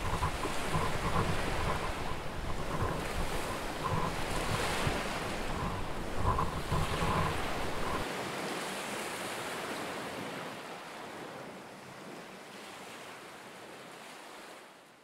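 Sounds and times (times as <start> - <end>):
rushing sea water: 0.0 - 15.0
wind: 0.0 - 15.0.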